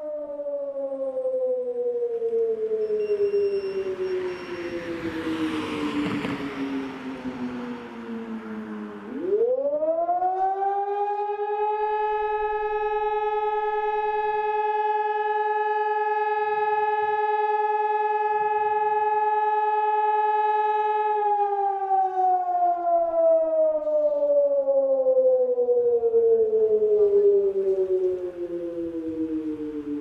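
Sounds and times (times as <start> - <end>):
electronic alarm siren wailing: 0.0 - 30.0.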